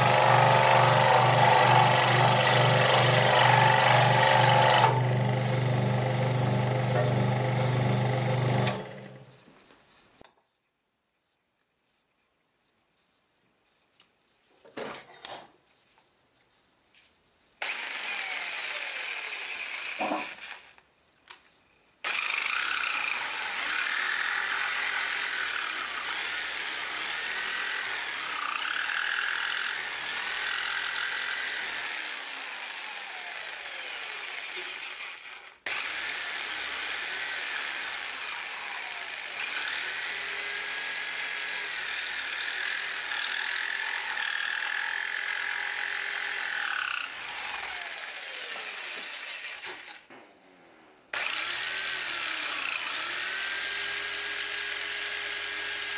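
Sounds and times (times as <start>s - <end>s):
electric jigsaw cutting wood: 0.0s - 9.4s, 17.6s - 20.8s, 22.0s - 50.1s, 51.1s - 55.9s.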